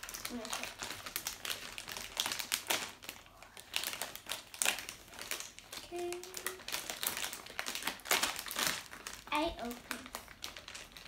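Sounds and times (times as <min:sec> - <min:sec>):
plastic snack bags crinkling: 0:00.0 - 0:11.0.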